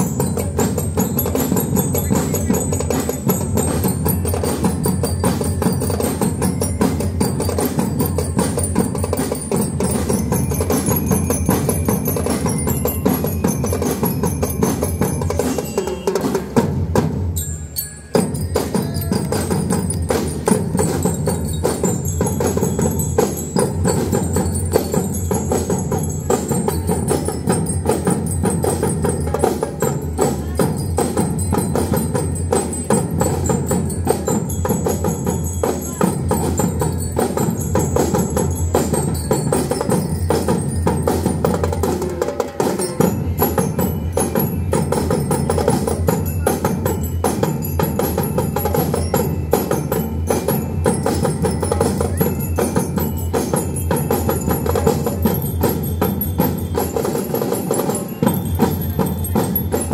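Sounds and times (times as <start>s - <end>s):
snare and bass drums beating: 0.0s - 17.4s, 18.1s - 59.9s
bell lyres ringing melody: 0.0s - 59.9s.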